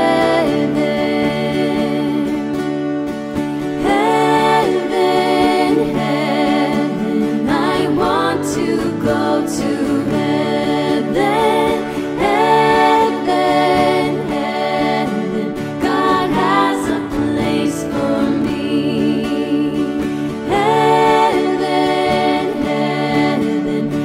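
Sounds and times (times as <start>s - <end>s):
children's song singing: 0.0s - 2.5s, 3.8s - 24.0s.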